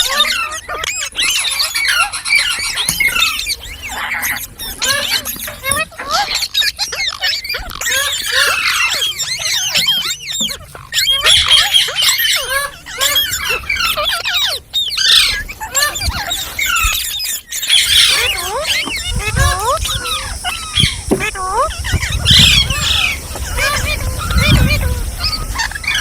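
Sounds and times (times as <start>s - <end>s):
parrots chattering and squawking: 0.0s - 26.0s.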